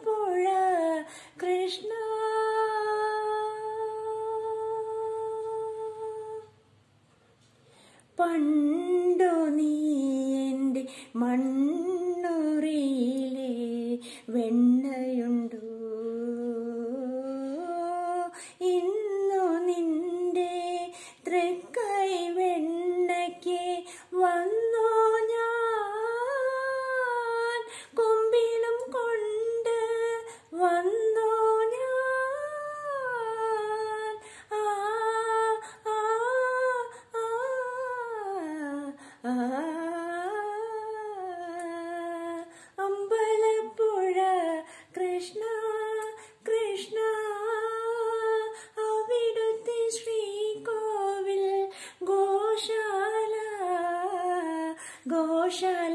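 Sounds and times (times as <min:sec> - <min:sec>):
woman singing unaccompanied: 0:00.0 - 0:06.6, 0:08.1 - 0:55.9.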